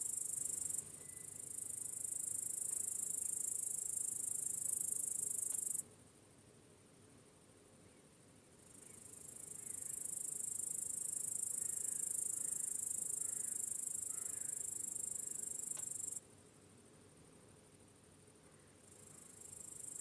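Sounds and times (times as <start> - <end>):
crickets chirping: 0.0 - 6.2, 7.5 - 20.0.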